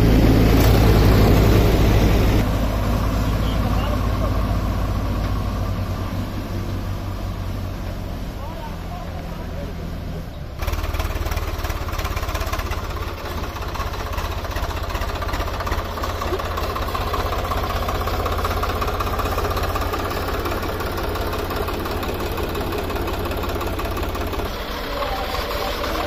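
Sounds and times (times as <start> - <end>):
tractor diesel engine rumbling: 0.0 - 26.0.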